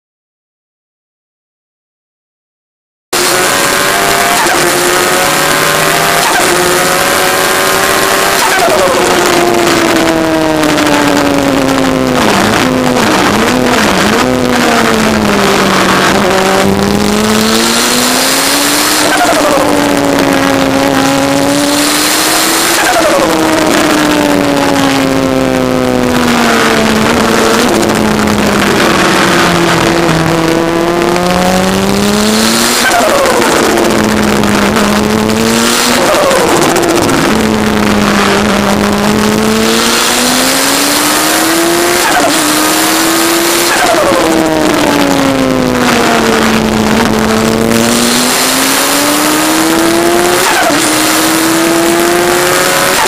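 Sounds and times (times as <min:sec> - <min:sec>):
motorcycle engine revving: 0:03.1 - 0:53.0.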